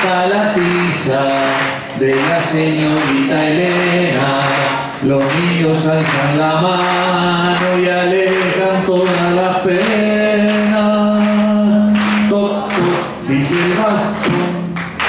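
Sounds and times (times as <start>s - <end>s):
man singing unaccompanied: 0.0s - 14.9s.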